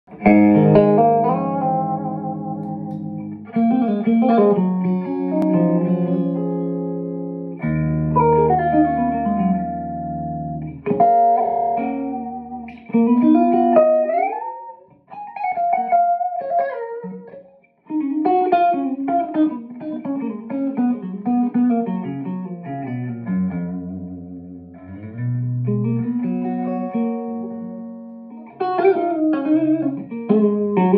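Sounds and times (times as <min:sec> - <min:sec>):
clean electric guitar: 0:00.1 - 0:30.9.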